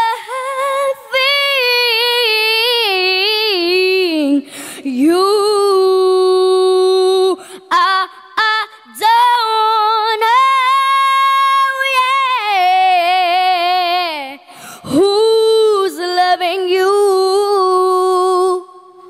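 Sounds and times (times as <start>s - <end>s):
girl singing a cappella: 0.0s - 19.0s.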